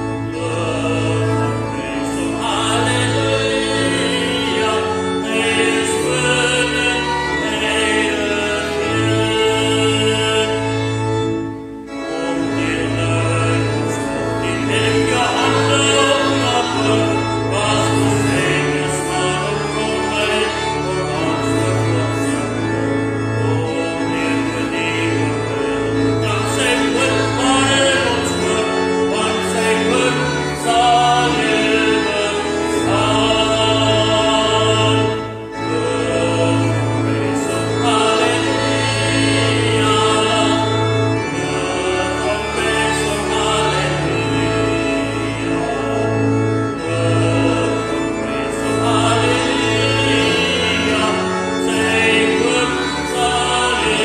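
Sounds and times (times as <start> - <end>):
instrumental accompaniment: 0.0 - 54.0
worship song singing: 0.0 - 54.0.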